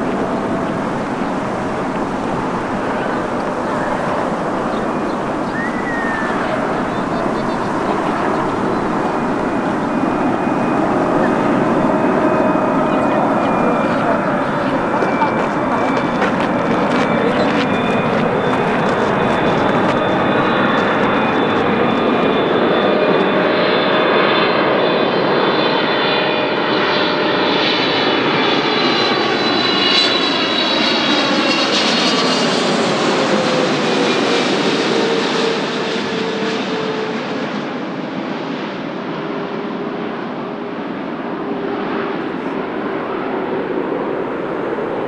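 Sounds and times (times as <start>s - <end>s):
jet airliner passing: 0.0s - 45.0s.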